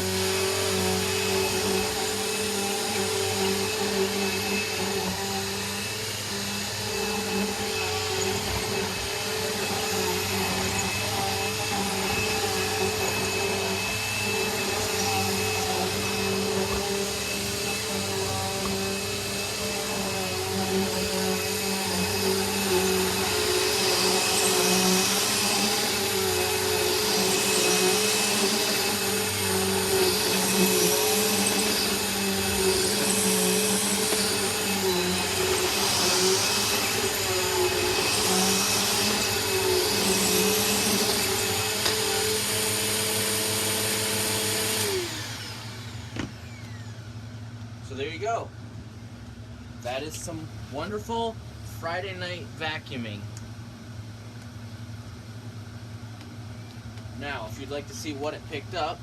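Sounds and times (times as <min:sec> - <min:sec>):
vacuum cleaner running: 0:00.0 - 0:48.6, 0:53.8 - 0:59.0.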